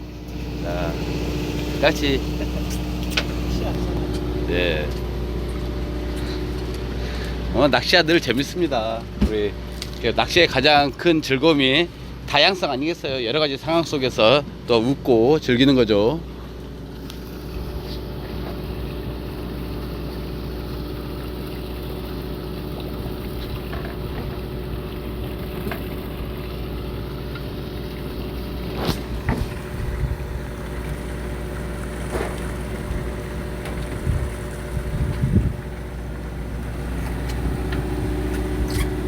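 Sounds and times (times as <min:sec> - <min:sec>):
boat engine drone: 0:00.0 - 0:39.0.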